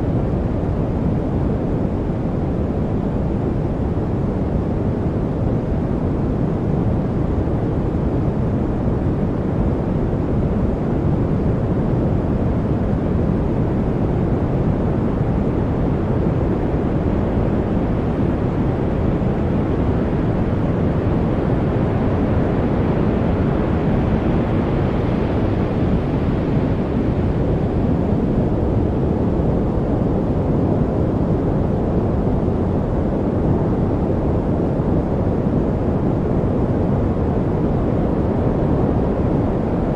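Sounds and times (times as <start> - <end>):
continuous low rushing noise: 0.0 - 39.9.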